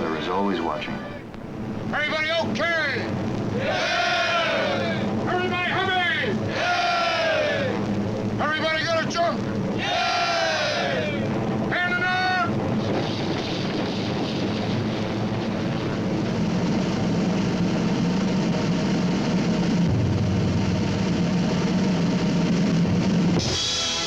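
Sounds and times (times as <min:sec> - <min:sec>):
propeller plane engines droning: 0:00.0 - 0:24.0.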